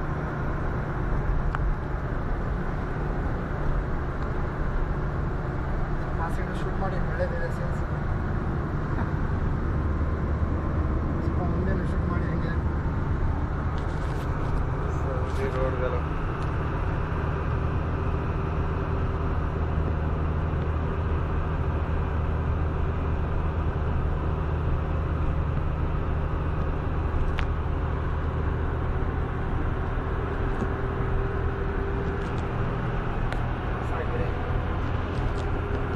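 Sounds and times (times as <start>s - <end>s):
vehicle engine and road noise: 0.0s - 35.9s.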